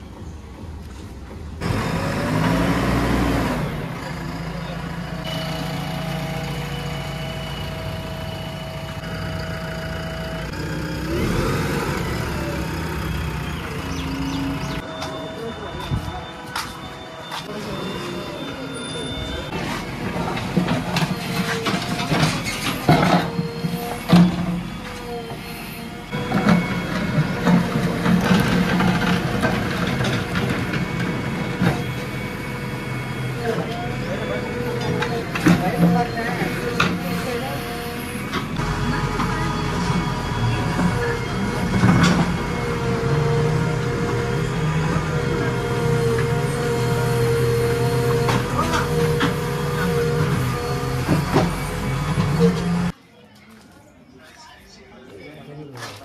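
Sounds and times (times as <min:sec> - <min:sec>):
backhoe diesel engine running: 0:00.9 - 0:53.0
steady whine: 0:05.2 - 0:52.9.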